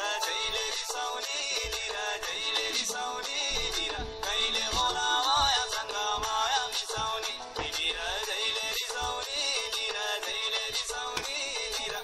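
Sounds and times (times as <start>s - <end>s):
film song with steady beat: 0.0s - 12.0s
person singing: 0.0s - 12.0s.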